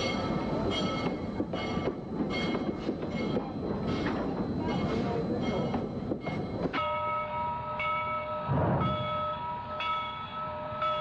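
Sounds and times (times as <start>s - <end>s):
train rumbling and rattling: 0.0s - 11.0s.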